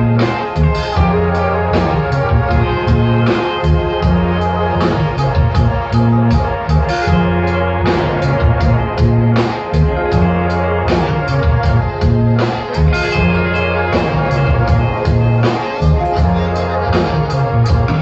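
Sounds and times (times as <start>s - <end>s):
drum hits: 0.0s - 18.0s
electric guitar: 0.0s - 18.0s
sustained bass line: 0.0s - 18.0s.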